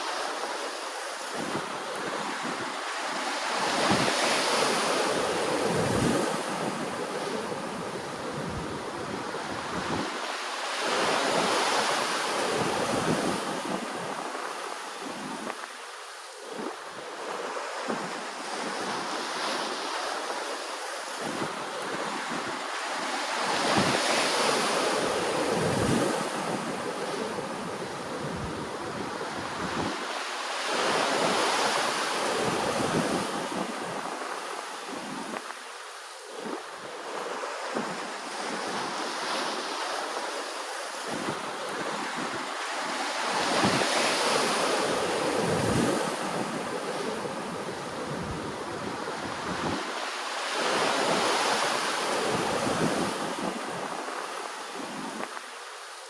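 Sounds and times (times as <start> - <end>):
waves breaking and washing in: 0.0 - 56.0.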